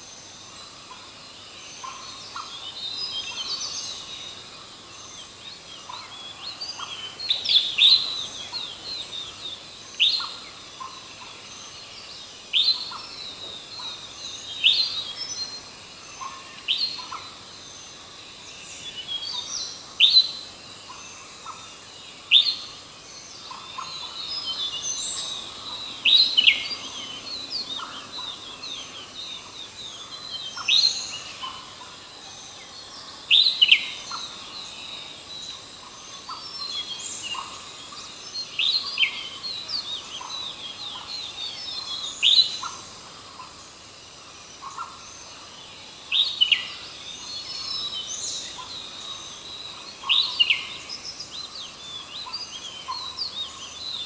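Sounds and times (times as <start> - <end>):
faint bird chirps: 0.0 - 54.0.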